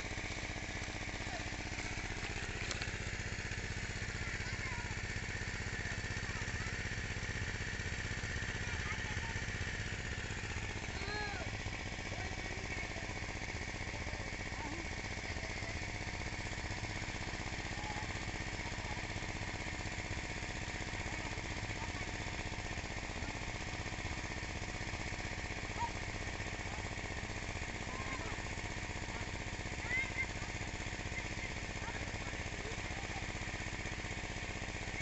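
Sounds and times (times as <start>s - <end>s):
small engine chugging: 0.0s - 35.0s.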